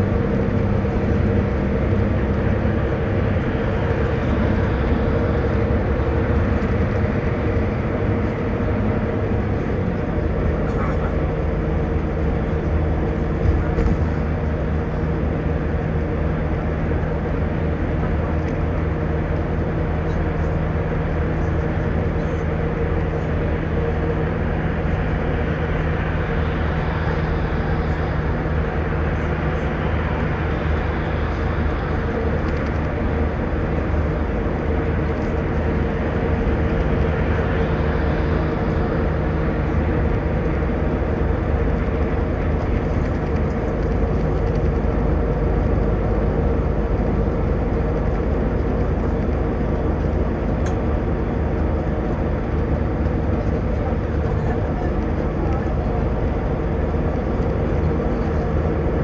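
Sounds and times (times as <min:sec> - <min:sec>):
bus engine hum: 0:00.0 - 0:59.0
road noise: 0:00.0 - 0:59.0.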